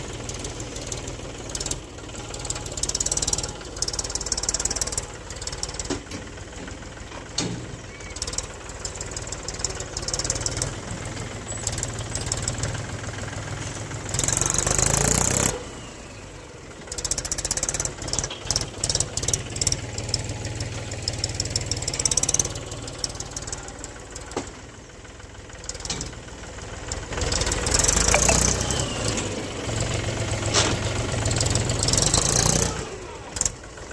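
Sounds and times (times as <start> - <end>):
tractor diesel engine knocking: 0.0 - 15.6, 16.3 - 33.9.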